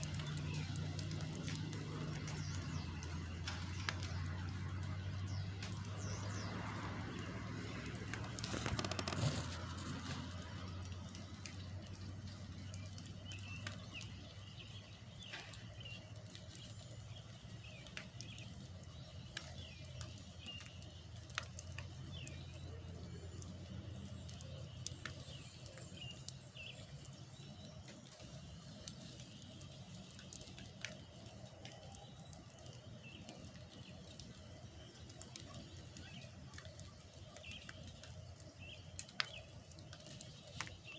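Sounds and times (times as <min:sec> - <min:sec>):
low engine hum: 0:00.0 - 0:40.9
small birds chirping: 0:00.0 - 0:40.9.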